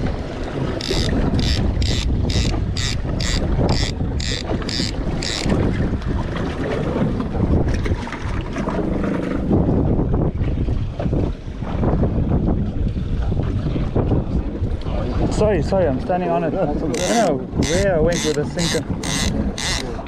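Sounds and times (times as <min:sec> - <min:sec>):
boat engine rumble: 0:00.0 - 0:20.0
wind buffeting microphone: 0:00.0 - 0:20.0.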